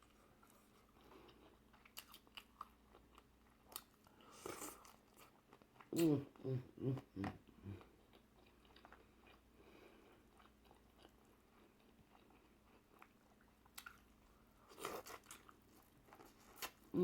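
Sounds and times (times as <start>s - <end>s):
close-up chewing with mouth clicks: 0.0s - 17.0s.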